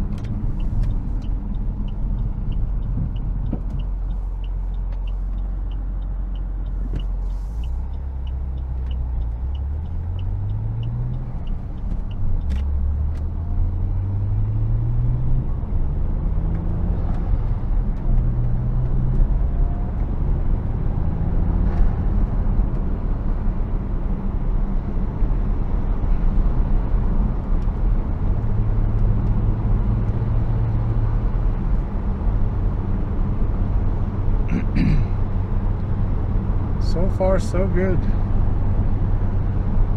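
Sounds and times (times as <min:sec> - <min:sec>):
car engine accelerating through gears: 0:00.0 - 0:39.9
turn signal ticking: 0:00.0 - 0:39.9
tyre road noise: 0:00.0 - 0:39.9.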